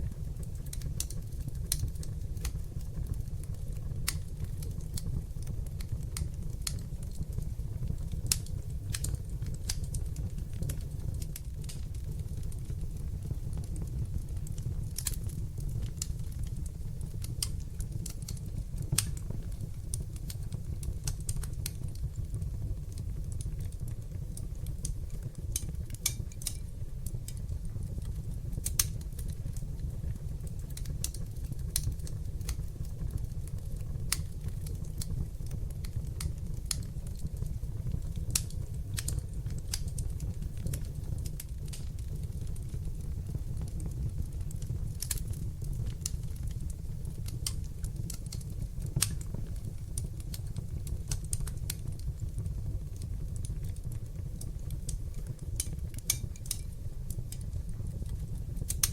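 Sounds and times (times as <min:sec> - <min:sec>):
burning logs crackling and popping: 0:00.0 - 0:58.9
low rumble of flames: 0:00.0 - 0:58.9.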